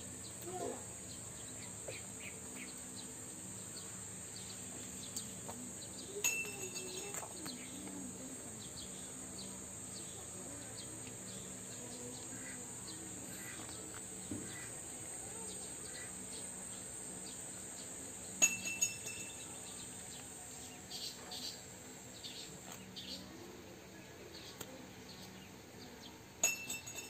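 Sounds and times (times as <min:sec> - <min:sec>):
insect drone: 0:00.0 - 0:23.6.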